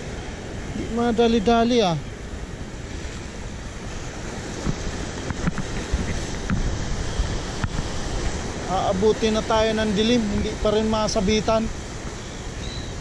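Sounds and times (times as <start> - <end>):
surf washing on rocks: 0.0 - 13.0
wind rumbling on microphone: 0.0 - 13.0.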